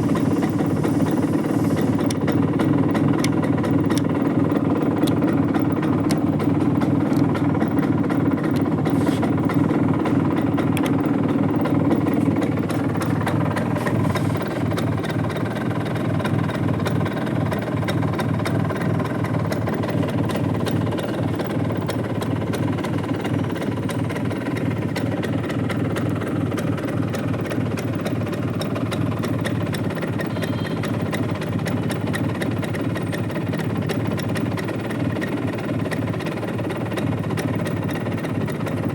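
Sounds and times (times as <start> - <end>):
scooter engine idling: 0.0 - 38.9.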